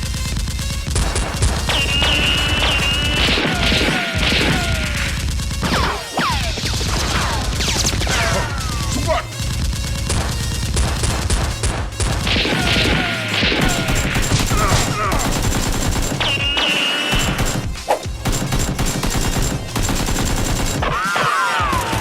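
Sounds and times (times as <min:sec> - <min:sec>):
rapid gunfire: 0:00.0 - 0:22.0.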